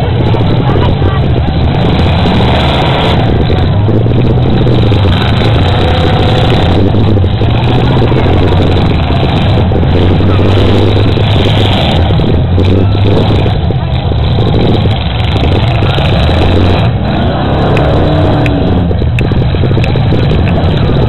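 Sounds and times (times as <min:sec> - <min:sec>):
car engines revving loudly: 0:00.0 - 0:21.0.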